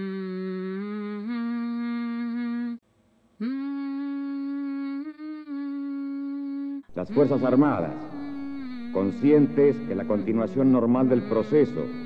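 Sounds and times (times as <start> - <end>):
person humming a slow melody: 0.0 - 2.8, 3.4 - 12.0.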